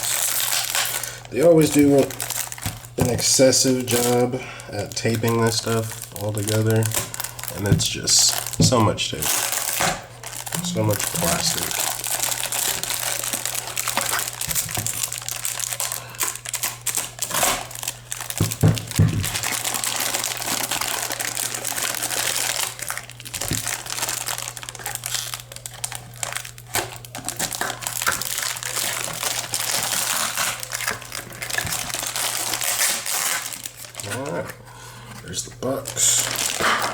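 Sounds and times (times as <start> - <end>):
plastic packaging crinkling: 0.0 - 36.9.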